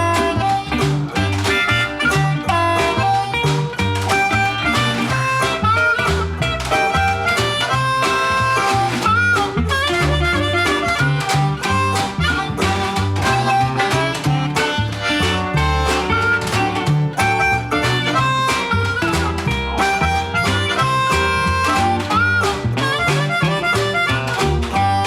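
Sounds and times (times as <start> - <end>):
harmonica bent notes: 0.0 - 25.0
resonator guitar: 0.0 - 25.0
walking double bass: 0.0 - 25.0
washboard beat: 0.0 - 25.0.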